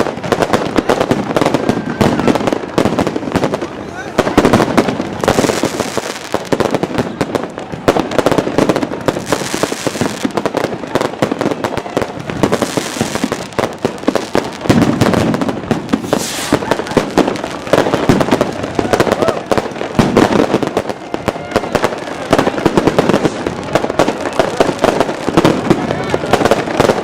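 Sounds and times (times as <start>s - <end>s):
fireworks and firecrackers exploding: 0.0s - 27.0s.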